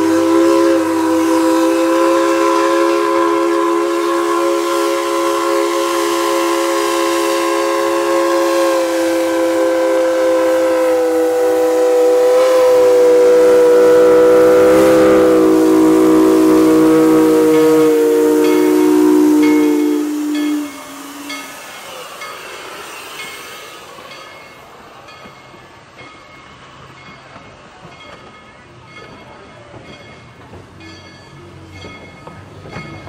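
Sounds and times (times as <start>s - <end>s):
steam locomotive chime whistle: 0.0s - 33.0s.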